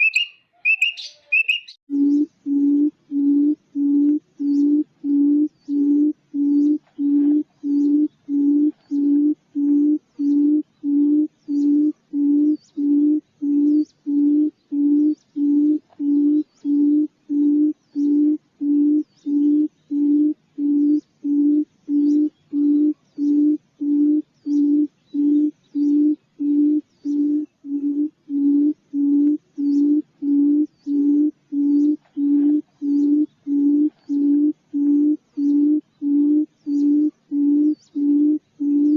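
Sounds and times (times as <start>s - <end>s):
quail hooting call: 0.0s - 38.9s.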